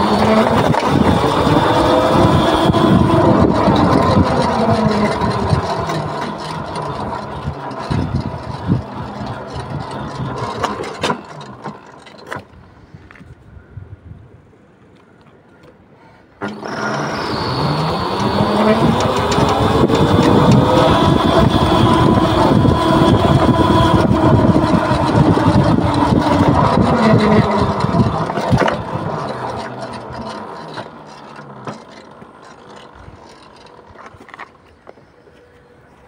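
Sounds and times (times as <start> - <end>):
electric bike motor whining: 0.0 - 12.1, 16.4 - 36.0
road and wind noise: 0.0 - 36.0.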